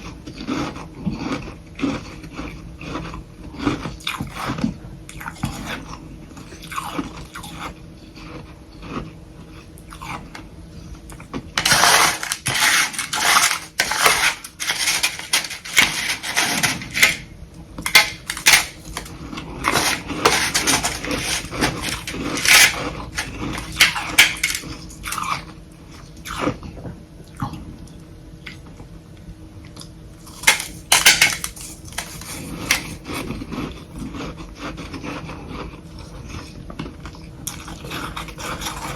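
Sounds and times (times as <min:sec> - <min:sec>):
crunching and chewing frost: 0:00.0 - 0:28.8, 0:29.6 - 0:38.9.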